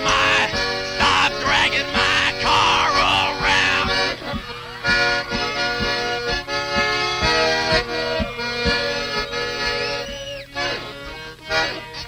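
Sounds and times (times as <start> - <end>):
accordion playing chords: 0.0 - 12.0
steady low beat: 0.0 - 12.0.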